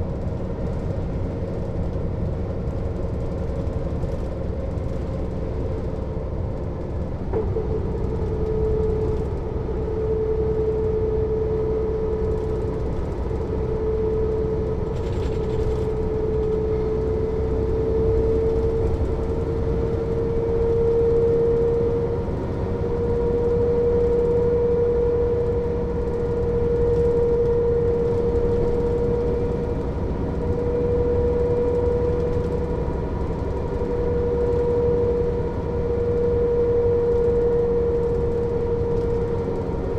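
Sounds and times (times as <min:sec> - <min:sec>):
bus diesel rumble: 0:00.0 - 0:39.9.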